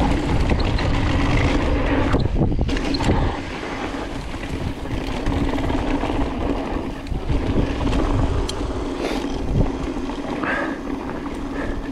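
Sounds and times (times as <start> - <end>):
wind rushing over microphone: 0.0 - 10.4
bike rumble and knocks: 0.0 - 11.9.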